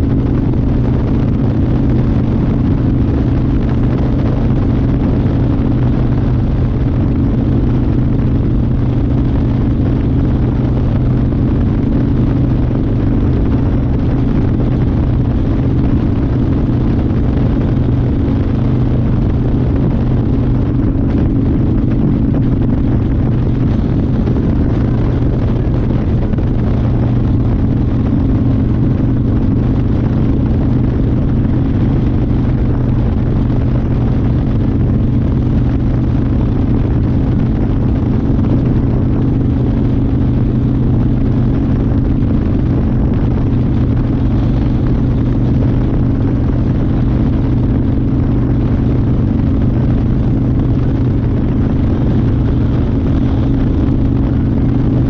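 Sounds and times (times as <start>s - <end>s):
motorcycle engine running: 0.0s - 55.0s
rush of noise: 0.0s - 55.0s.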